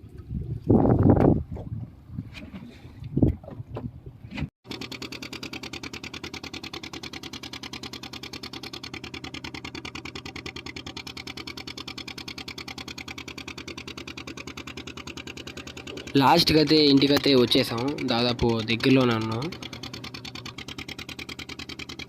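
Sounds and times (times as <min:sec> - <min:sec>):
boat engine pulsing: 0:00.1 - 0:22.0.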